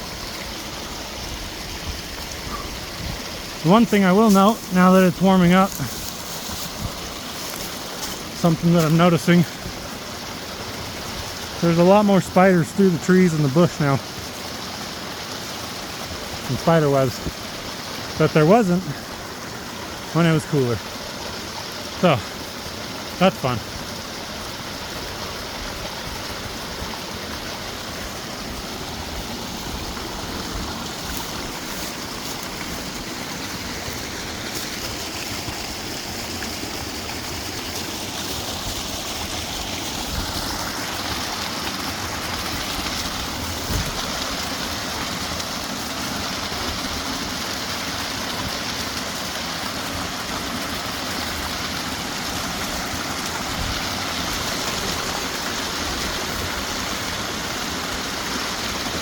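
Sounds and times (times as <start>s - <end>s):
creek water running over rocks: 0.0s - 59.0s.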